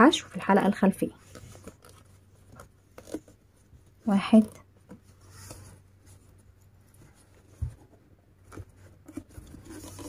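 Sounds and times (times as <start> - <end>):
crochet hook rustling cord: 0.2 - 10.0.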